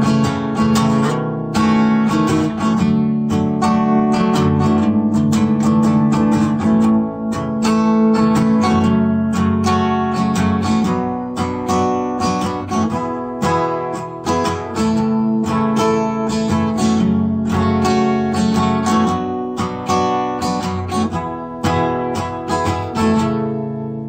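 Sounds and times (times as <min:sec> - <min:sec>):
strummed guitar chords: 0:00.0 - 0:24.0.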